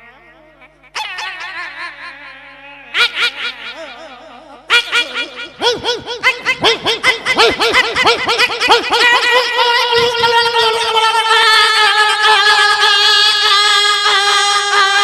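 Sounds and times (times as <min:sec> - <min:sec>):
man imitating animal call: 0:00.0 - 0:15.0.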